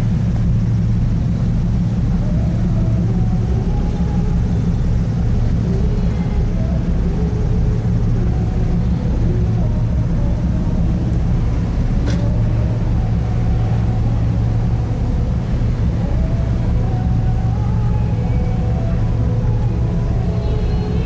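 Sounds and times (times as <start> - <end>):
ship engine rumble: 0.0 - 21.0.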